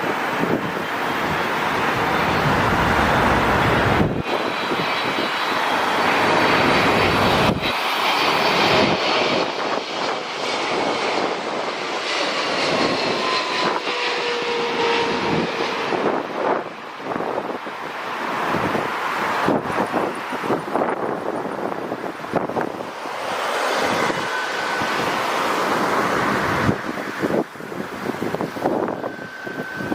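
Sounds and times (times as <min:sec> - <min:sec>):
jet airliner passing by: 0:00.0 - 0:29.9
jet engine whine: 0:00.0 - 0:29.9.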